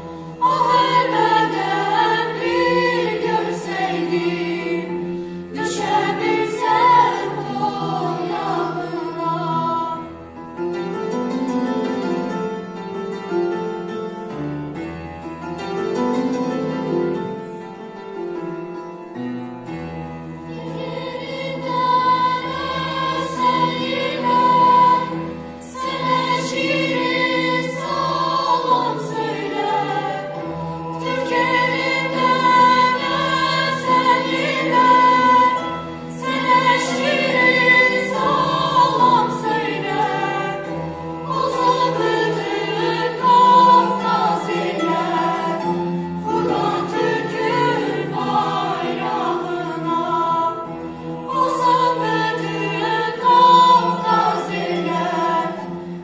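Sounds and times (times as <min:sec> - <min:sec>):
choir singing: 0:00.0 - 0:14.1, 0:15.6 - 0:18.6, 0:19.6 - 0:56.0.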